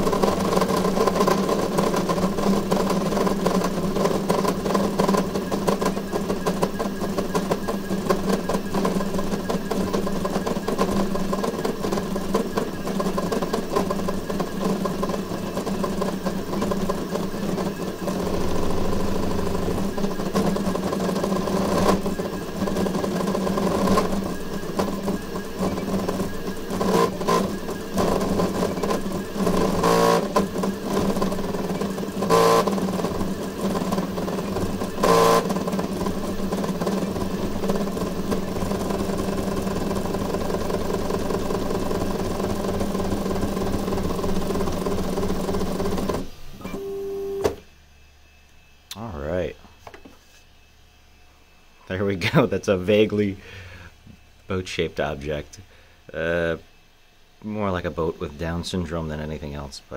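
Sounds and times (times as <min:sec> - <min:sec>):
stepper motors buzzing and whining: 0:00.0 - 0:59.6
steady hum: 0:00.0 - 0:59.9.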